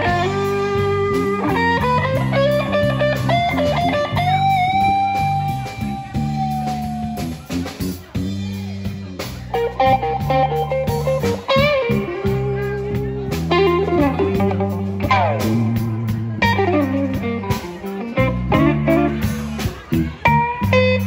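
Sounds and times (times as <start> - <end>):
electric guitar bending notes: 0.0 - 8.8, 9.5 - 21.0
bass guitar line: 0.0 - 21.0
drum beat: 0.0 - 21.0.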